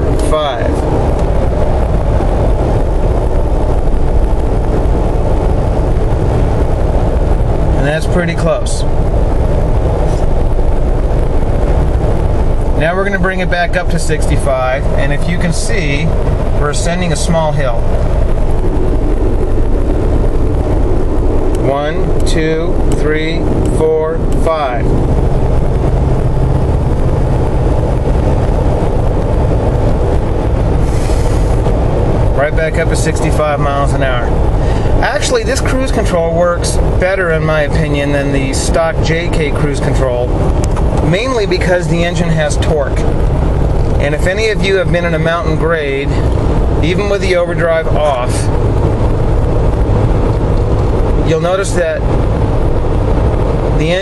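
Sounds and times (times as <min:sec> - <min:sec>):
road and engine noise in car: 0:00.0 - 0:54.0.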